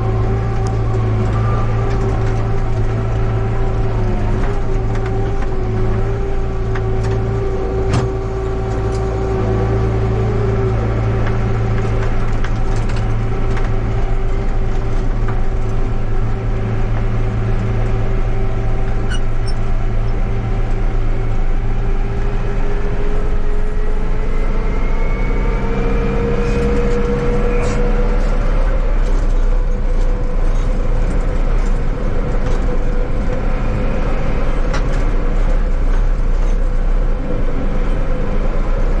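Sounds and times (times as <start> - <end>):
rising engine whine: 0.0 - 39.0
tractor engine drone: 0.0 - 39.0.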